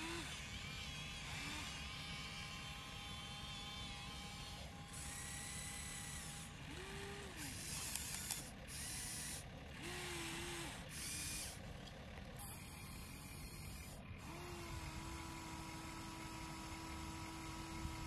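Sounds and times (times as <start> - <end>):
electric gear motors whining: 0.0 - 18.0.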